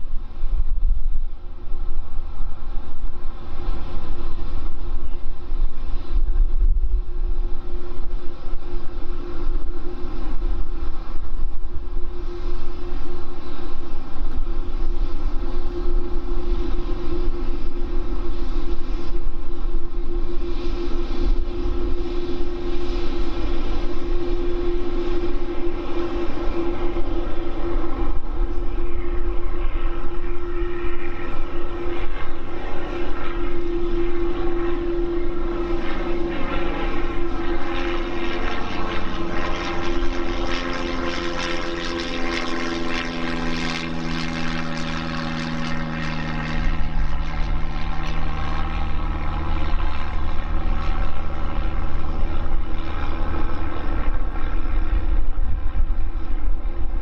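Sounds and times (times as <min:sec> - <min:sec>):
jet engines whining: 0:00.0 - 0:57.0
low rumble: 0:00.0 - 0:57.0.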